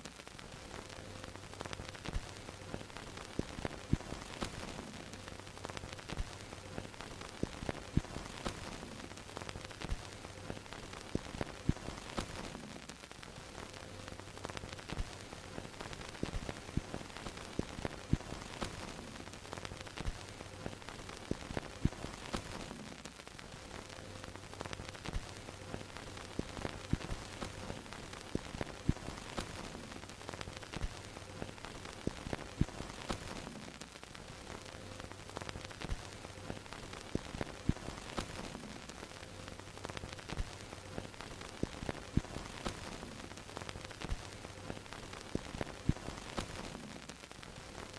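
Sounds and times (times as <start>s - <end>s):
film crackle and pops: 0.0s - 47.9s
film projector hiss and hum: 0.0s - 47.9s.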